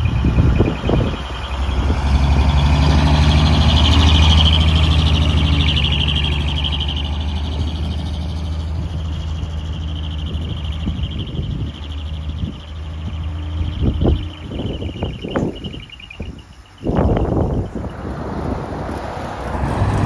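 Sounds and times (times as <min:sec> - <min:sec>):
diesel truck engine passing: 0:00.0 - 0:20.0.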